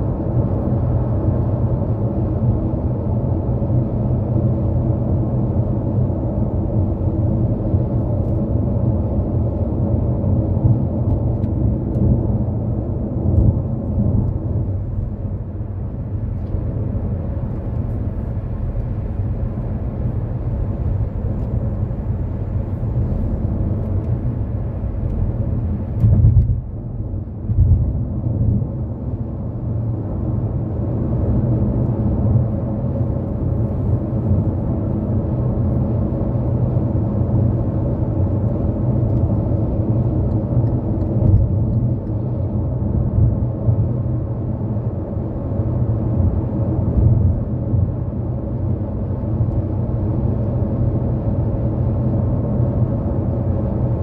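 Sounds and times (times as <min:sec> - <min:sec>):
car driving at highway speed: 0:00.0 - 0:54.0.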